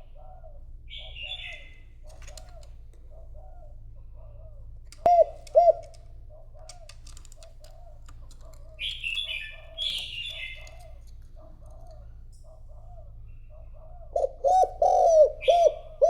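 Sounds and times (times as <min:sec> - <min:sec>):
bird chirping: 0:00.0 - 0:16.0
dove cooing: 0:00.0 - 0:16.0.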